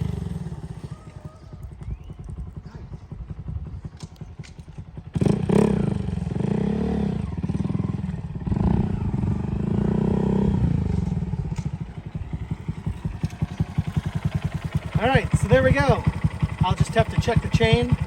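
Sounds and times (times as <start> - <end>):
motorcycle engine revving and idling: 0.0 - 18.0.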